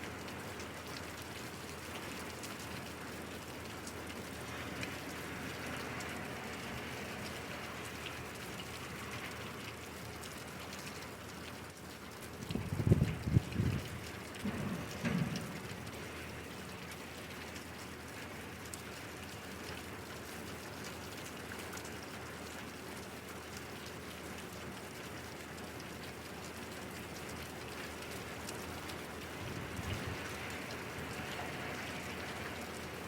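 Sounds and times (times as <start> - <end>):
rain pattering on surfaces: 0.0 - 33.0.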